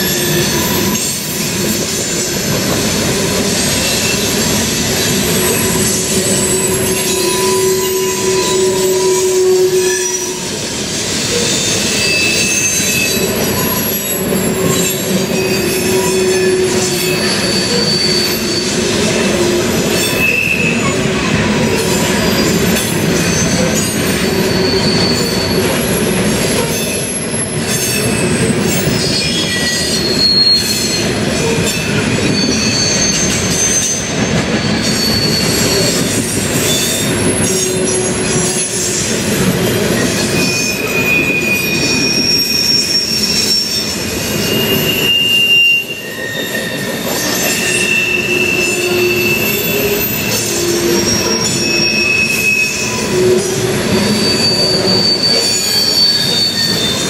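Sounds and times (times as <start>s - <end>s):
train wheels rumbling on rails: 0.0s - 57.0s
wheel squeals: 0.0s - 57.0s.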